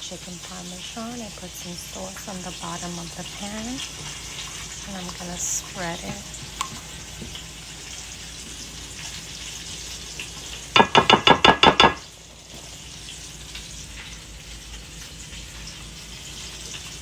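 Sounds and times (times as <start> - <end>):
wings sizzling in oil: 0.0 - 17.0.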